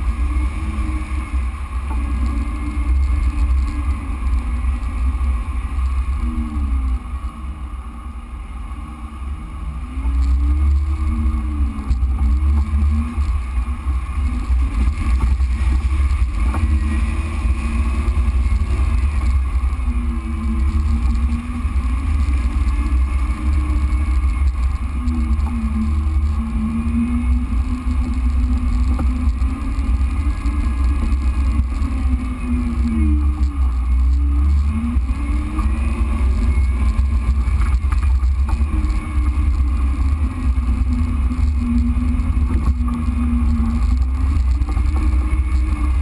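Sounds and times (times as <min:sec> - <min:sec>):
off-road vehicle engine rumbling: 0:00.0 - 0:46.0.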